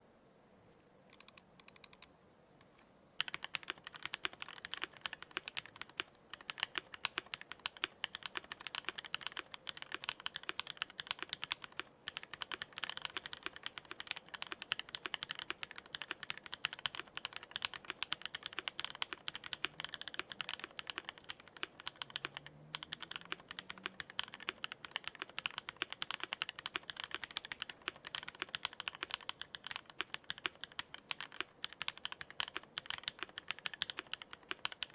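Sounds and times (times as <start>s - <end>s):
mechanical keyboard typing: 3.2s - 34.9s.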